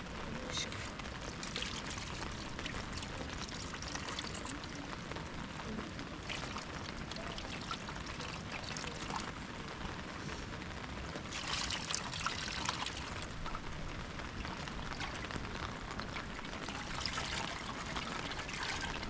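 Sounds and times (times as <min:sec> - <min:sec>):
steady rain: 0:00.0 - 0:19.0
water trickling and splashing: 0:00.0 - 0:19.0.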